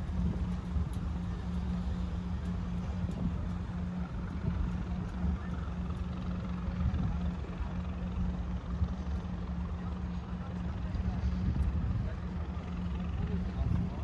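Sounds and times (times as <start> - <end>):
constant hum: 0.0 - 14.0
low engine drone: 0.0 - 14.0.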